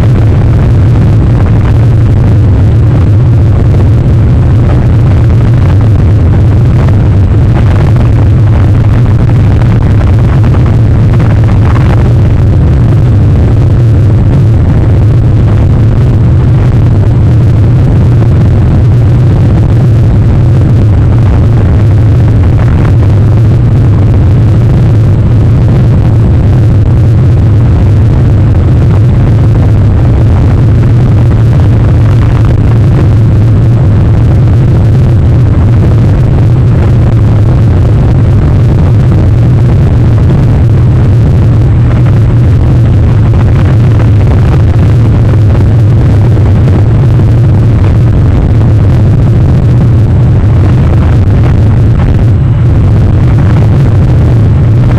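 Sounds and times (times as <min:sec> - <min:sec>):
wind rumbling against microphone: 0:00.0 - 0:54.9.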